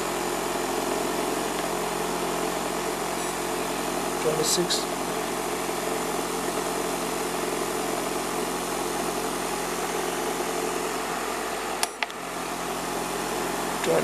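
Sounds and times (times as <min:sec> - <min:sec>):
fan heater blower running: 0:00.0 - 0:14.0.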